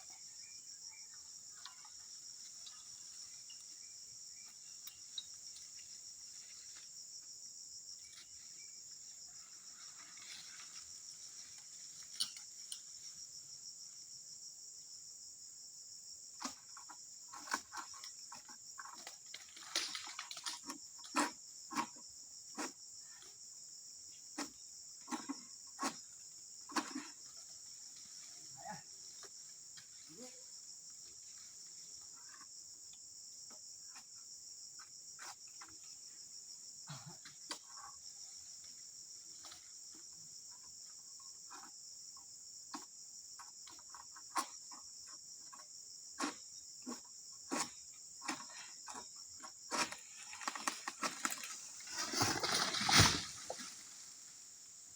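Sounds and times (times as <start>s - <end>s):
insects chorus: 0.0s - 54.9s.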